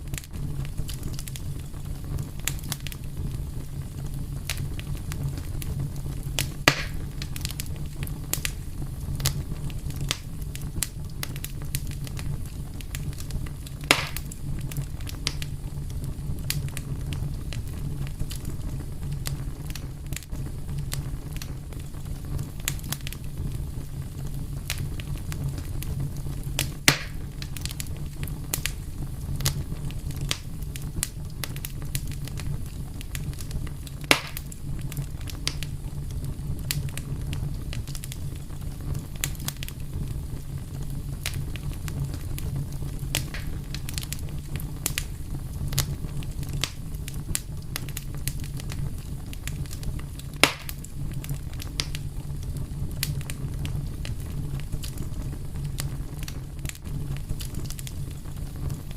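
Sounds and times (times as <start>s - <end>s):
fire crackling with pops: 0.0s - 58.9s
low fire rumble: 0.0s - 58.9s.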